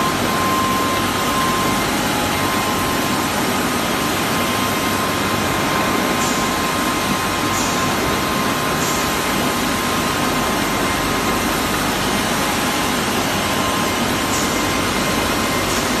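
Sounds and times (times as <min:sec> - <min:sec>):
labeling machine running: 0:00.0 - 0:16.0.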